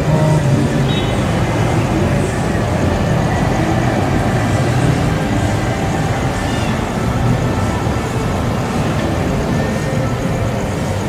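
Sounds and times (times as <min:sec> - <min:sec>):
engine hum: 0:00.0 - 0:11.0
road rumble: 0:00.0 - 0:11.0.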